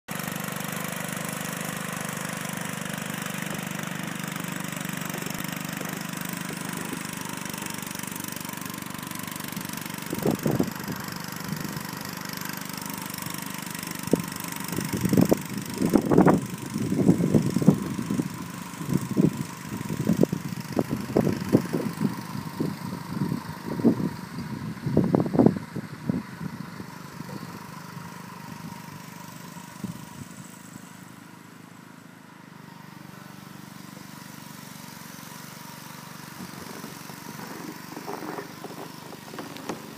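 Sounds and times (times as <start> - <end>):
engine running: 0.1 - 39.9.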